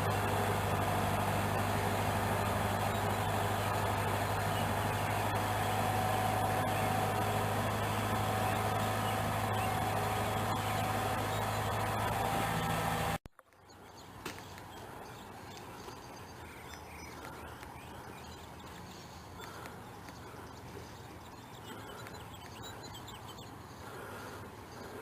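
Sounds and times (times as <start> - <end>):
faint outdoor background: 0.0 - 25.0
tractor engine running: 0.0 - 25.0.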